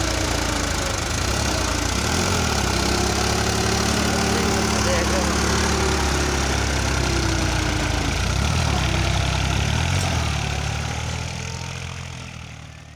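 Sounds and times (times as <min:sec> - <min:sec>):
tractor diesel engine under load: 0:00.0 - 0:12.9.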